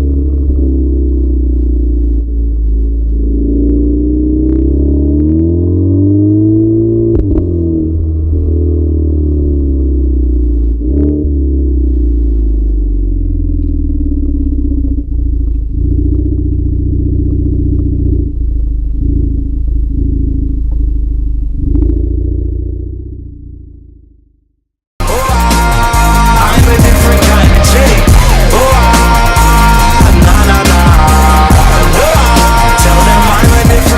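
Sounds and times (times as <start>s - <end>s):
car exhaust droning: 0.0s - 33.9s
exhaust cracks: 0.0s - 33.9s.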